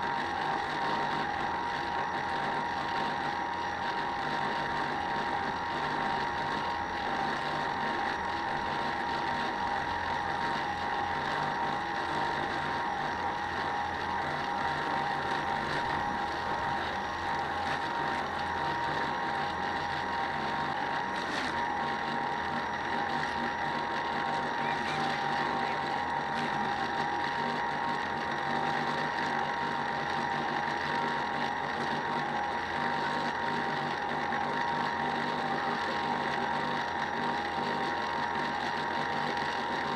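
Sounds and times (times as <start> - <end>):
model boat motor whining: 0.0 - 39.9.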